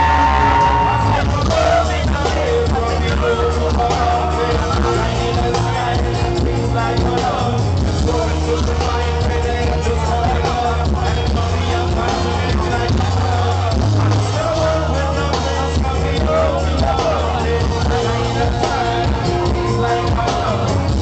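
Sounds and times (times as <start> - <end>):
live band with steady bass: 0.0 - 21.0
man singing live: 0.0 - 21.0.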